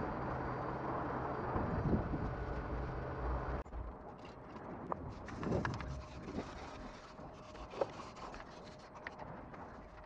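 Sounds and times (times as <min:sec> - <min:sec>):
outdoor noise with low hum: 0:00.0 - 0:10.0.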